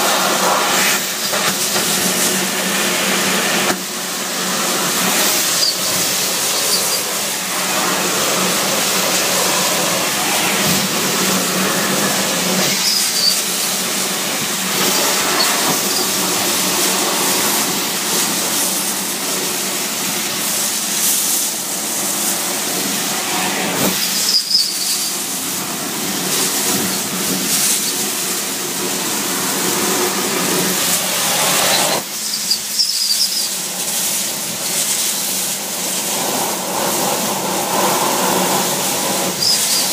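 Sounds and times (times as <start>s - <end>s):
air rushing into suction hose: 0.0s - 32.6s.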